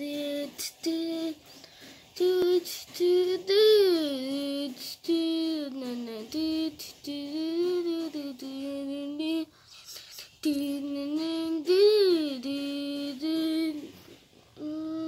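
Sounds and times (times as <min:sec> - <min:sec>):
high voice singing held notes: 0:00.0 - 0:15.0.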